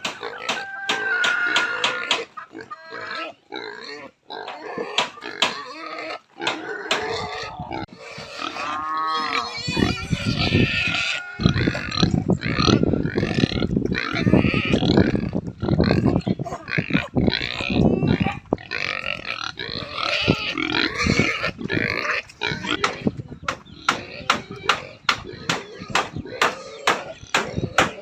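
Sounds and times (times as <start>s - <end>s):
pigs grunting and squealing: 0.0s - 28.0s.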